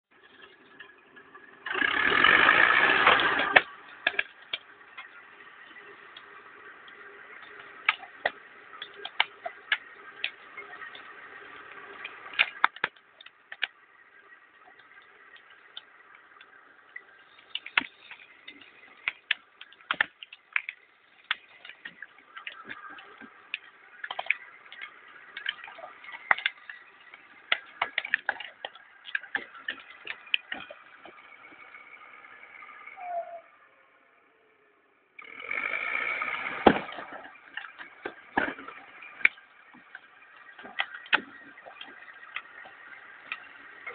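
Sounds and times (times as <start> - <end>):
machine engine hum: 0.1 - 43.9
sharp clicks and cracks: 2.8 - 31.7, 36.4 - 43.9.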